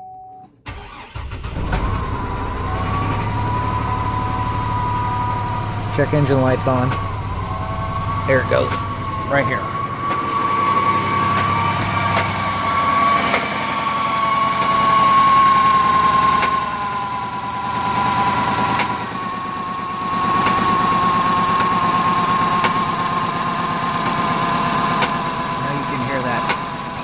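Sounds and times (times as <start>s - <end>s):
car engine idling roughly: 0.7s - 27.0s
high engine whine: 0.7s - 27.0s.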